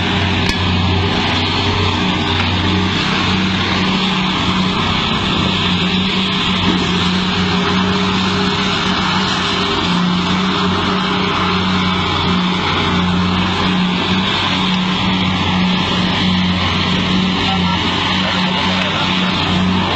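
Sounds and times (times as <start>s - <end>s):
large diesel truck engine running: 0.0s - 19.9s.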